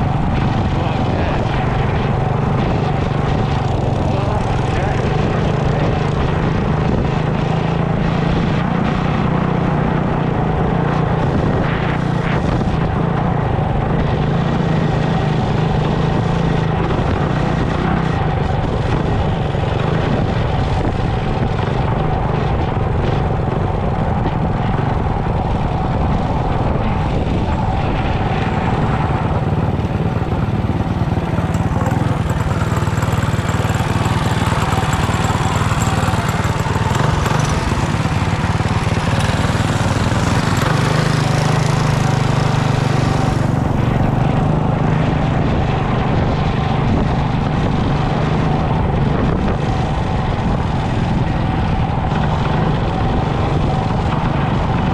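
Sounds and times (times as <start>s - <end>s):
mini bike engine running: 0.0s - 54.9s.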